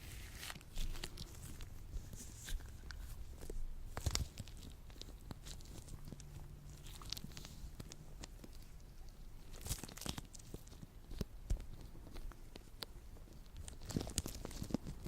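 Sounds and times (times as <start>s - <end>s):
gloved hands working sticky lotion: 0.0s - 15.0s.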